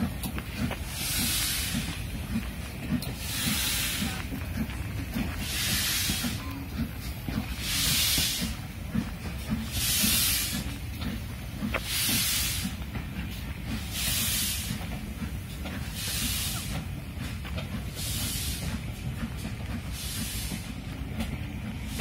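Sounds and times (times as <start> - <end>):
steady low rumble: 0.0 - 22.0
steam locomotive hissing: 0.0 - 22.0.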